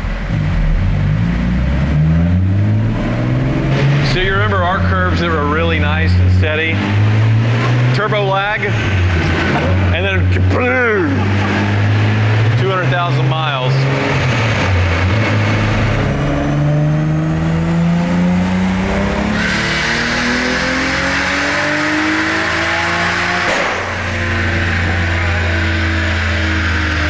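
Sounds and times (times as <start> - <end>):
car engine revving at full throttle: 0.0 - 27.0
engine and dyno rollers coasting: 0.0 - 27.0.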